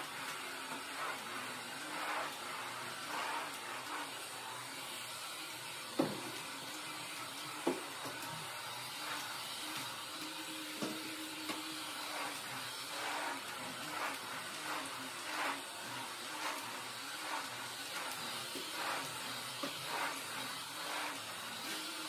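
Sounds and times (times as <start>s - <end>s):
vacuum cleaner running: 0.0s - 22.0s
vacuum swishing over floor: 0.0s - 22.0s.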